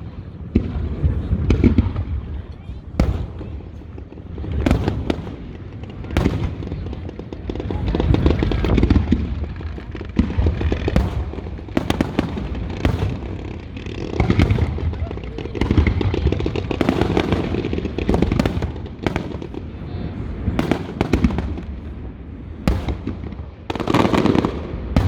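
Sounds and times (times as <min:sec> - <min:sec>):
fireworks cracks and booms: 0:00.0 - 0:25.0.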